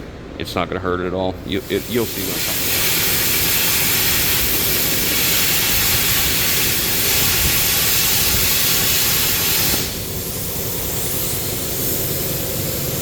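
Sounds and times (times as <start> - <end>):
plasma cutter hissing: 1.5 - 13.0.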